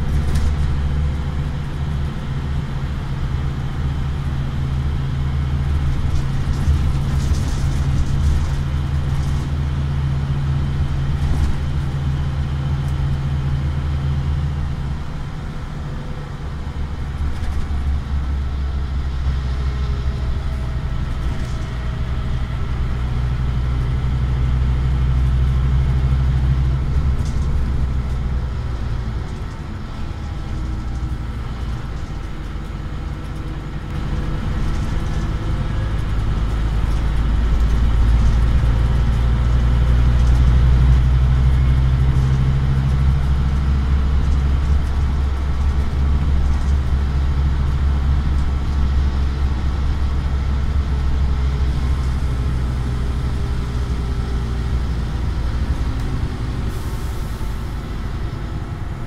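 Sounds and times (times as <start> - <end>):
bus engine drone from inside: 0.0 - 59.0.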